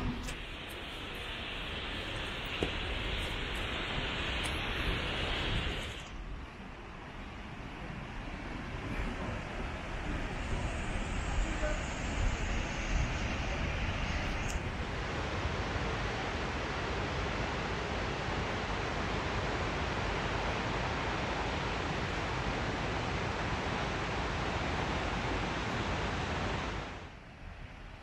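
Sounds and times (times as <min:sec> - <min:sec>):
river water rushing: 0:00.0 - 0:06.1, 0:06.8 - 0:27.2.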